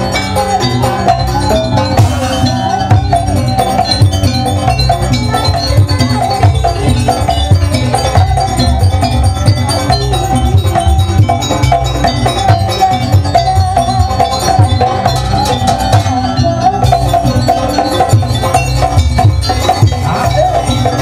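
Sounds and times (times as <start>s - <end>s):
hand drums beating: 0.0s - 21.0s
held wavering melody: 0.0s - 21.0s.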